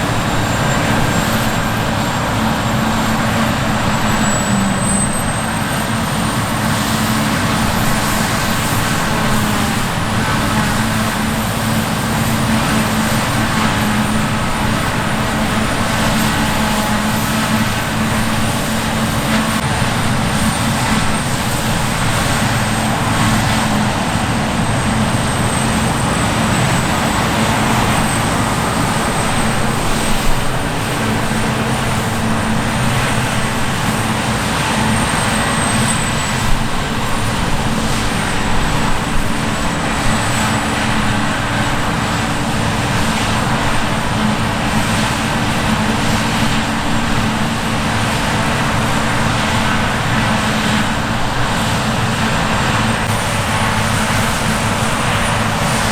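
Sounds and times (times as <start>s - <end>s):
harvest machinery engine drone: 0.0s - 55.9s.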